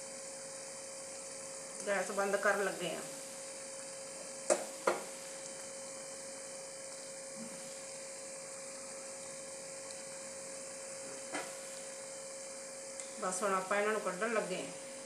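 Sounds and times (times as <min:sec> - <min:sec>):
steady hum tone: 0:00.0 - 0:15.0.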